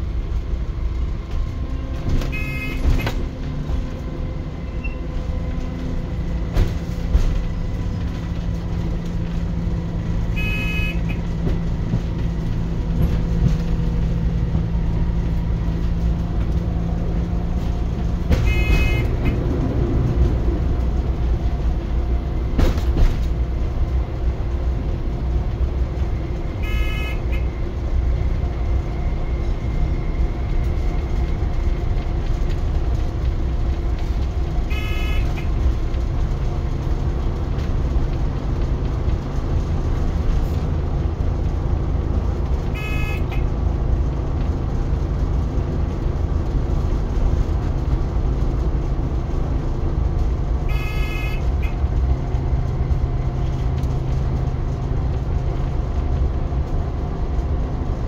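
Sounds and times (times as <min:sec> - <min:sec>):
railcar running along track: 0:00.0 - 0:58.0.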